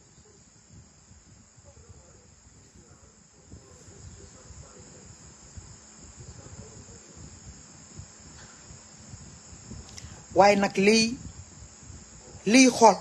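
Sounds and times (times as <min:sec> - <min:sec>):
soft low rumbling: 0:00.0 - 0:10.5, 0:11.2 - 0:12.5.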